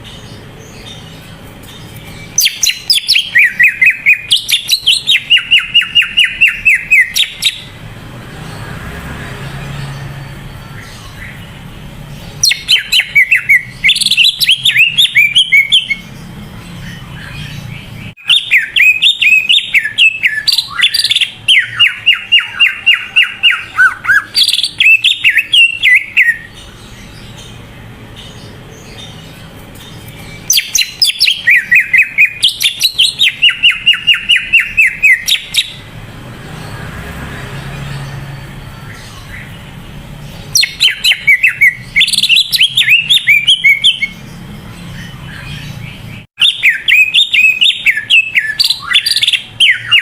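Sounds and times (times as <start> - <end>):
bird singing fast high chirps: 0.0 - 50.0.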